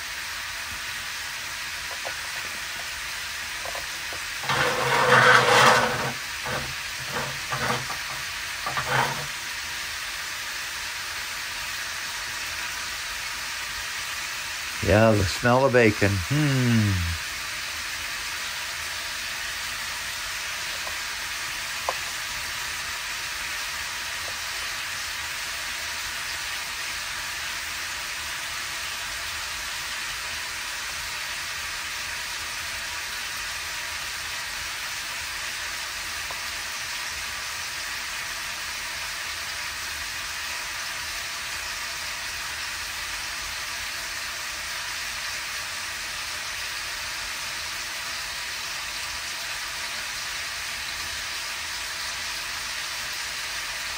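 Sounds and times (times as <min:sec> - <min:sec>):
sausages sizzling in a pan: 0:00.0 - 0:53.9.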